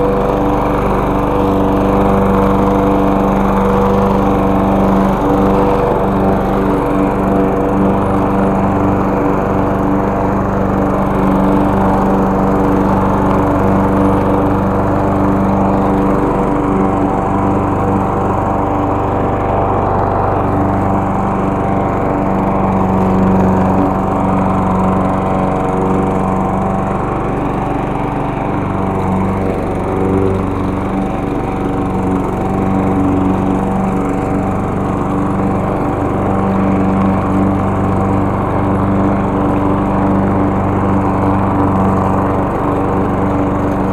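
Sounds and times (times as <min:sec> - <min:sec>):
lawn mower engine cutting grass: 0:00.0 - 0:43.9.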